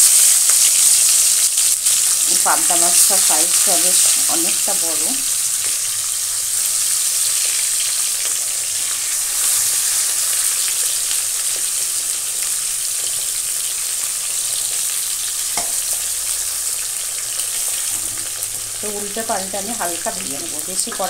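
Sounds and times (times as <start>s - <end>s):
fish frying in oil: 0.0s - 21.0s.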